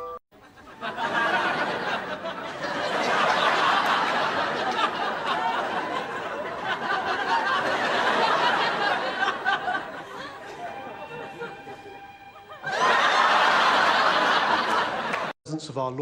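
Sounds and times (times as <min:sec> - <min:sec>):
audience laughing: 0:00.4 - 0:15.4.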